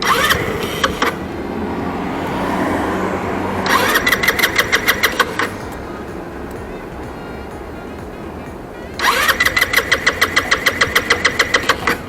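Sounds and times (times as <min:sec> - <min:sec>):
electric starter cranking engine: 0:00.0 - 0:12.0.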